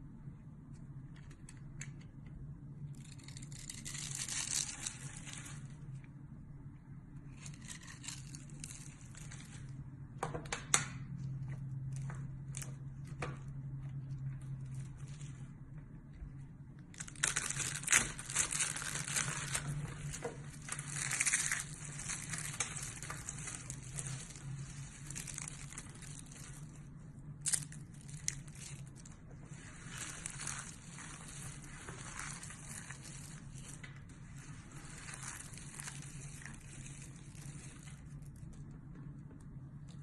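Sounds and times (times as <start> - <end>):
soft crackling of soap flakes: 0.4 - 10.0, 11.0 - 40.0.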